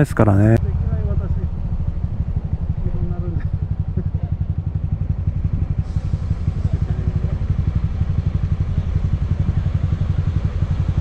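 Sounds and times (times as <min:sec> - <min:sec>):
motorcycle engine idling: 0:00.1 - 0:11.0.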